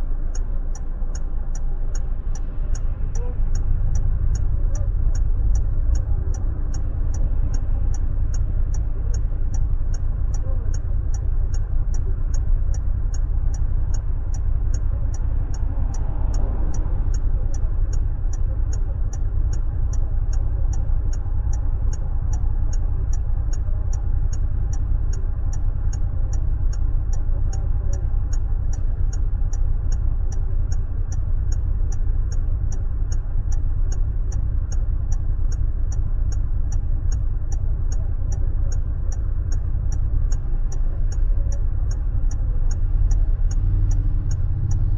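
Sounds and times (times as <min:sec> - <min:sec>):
car engine rumble inside cabin: 0:00.0 - 0:44.9
indicator relay ticking: 0:00.0 - 0:44.9.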